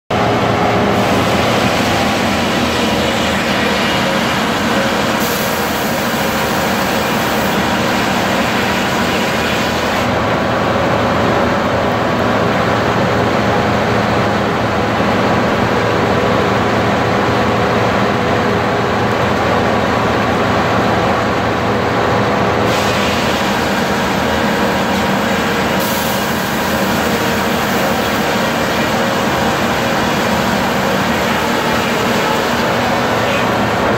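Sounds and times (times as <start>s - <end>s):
sawmill machinery din: 0.1s - 33.9s.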